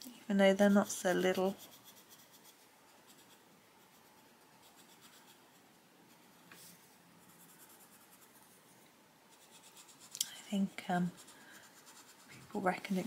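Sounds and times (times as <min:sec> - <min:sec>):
pencil scratching on paper: 0:00.5 - 0:08.6, 0:09.3 - 0:10.1, 0:10.7 - 0:13.0.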